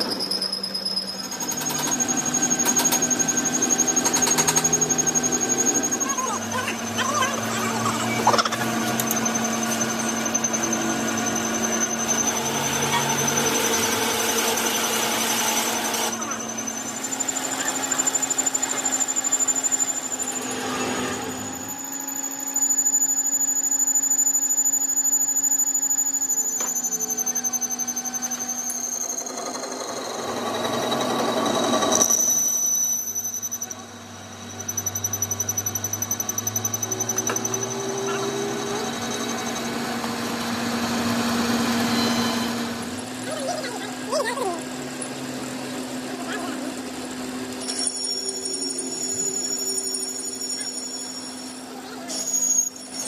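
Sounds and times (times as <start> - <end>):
machine running with fast chatter: 0.0 - 53.0.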